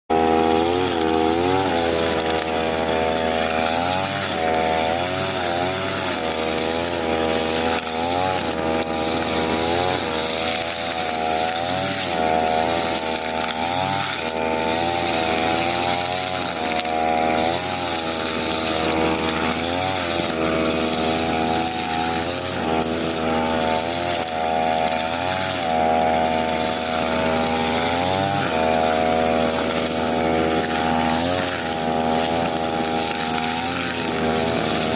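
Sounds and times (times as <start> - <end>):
brush cutter engine cutting grass: 0.1 - 34.9.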